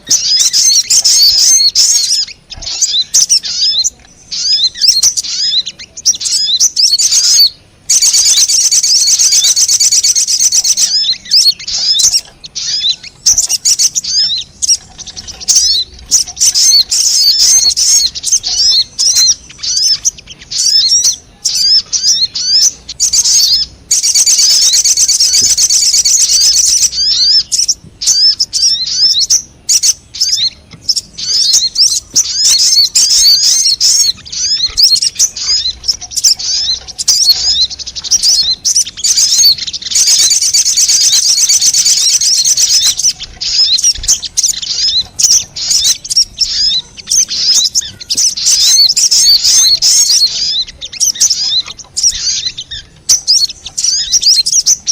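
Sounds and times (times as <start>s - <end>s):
bird dense trilling: 0.0s - 54.9s
bird high-pitched chirps: 0.0s - 54.9s.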